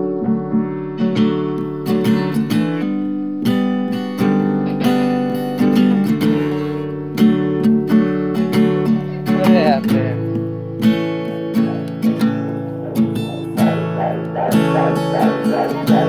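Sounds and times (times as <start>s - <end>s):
strummed acoustic guitar chords: 0.0s - 16.0s.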